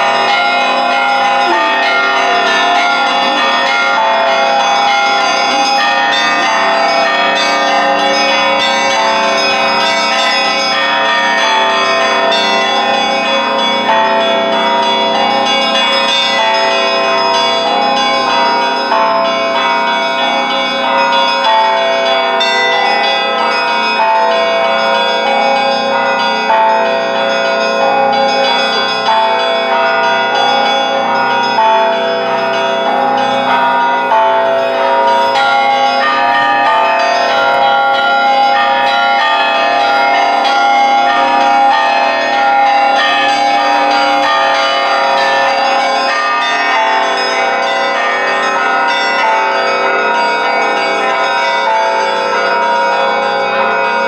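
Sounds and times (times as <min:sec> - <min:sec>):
low bell struck steadily: 0:00.0 - 0:54.0
small bells chiming quickly: 0:00.0 - 0:54.0.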